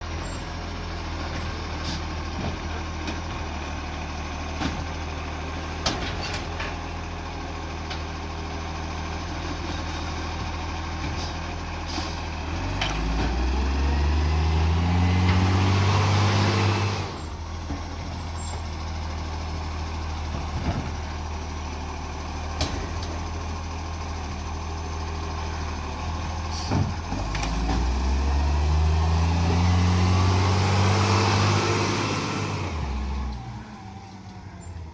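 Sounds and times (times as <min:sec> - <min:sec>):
diesel truck engine idling and revving: 0:00.0 - 0:34.9.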